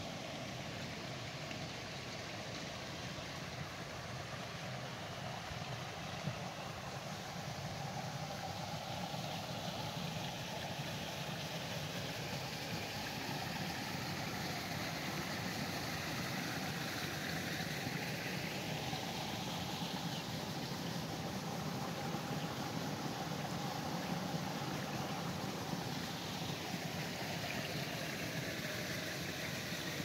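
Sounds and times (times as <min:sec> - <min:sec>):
rushing outdoor noise: 0:00.0 - 0:30.0.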